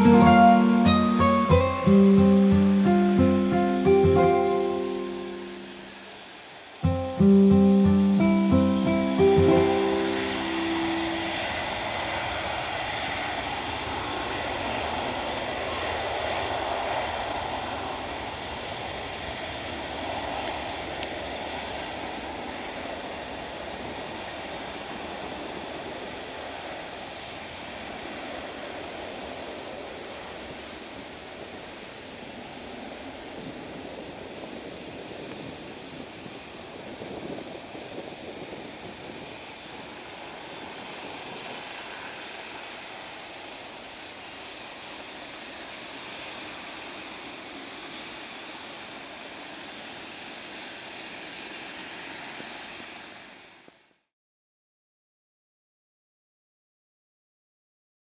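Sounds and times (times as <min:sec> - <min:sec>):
jet engines roaring: 0:00.0 - 0:53.6.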